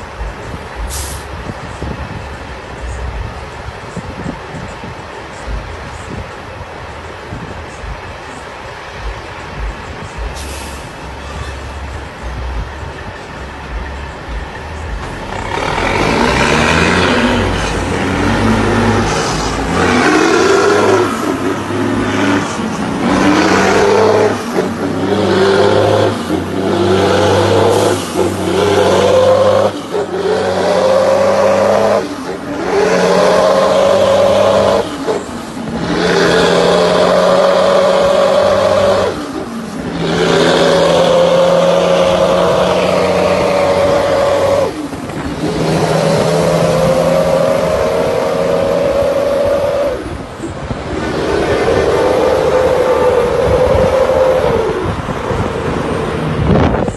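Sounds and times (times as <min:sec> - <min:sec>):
truck engine accelerating: 0:00.0 - 0:56.9.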